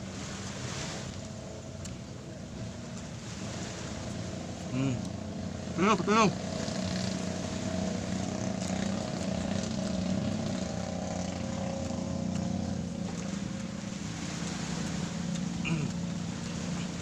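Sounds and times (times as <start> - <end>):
motorboat engine drone: 0.0 - 17.0
sea wash: 0.0 - 17.0.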